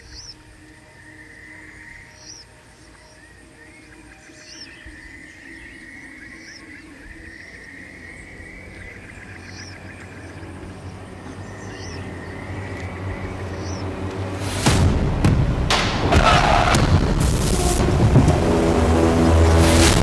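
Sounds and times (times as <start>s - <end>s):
steady high drone: 0.0s - 16.1s, 16.8s - 20.0s
low hum: 0.0s - 20.0s.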